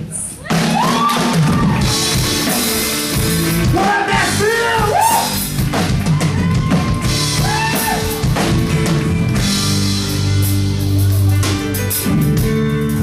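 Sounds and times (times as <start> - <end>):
drum kit steady beat: 0.0 - 13.0
country band playing: 0.4 - 13.0.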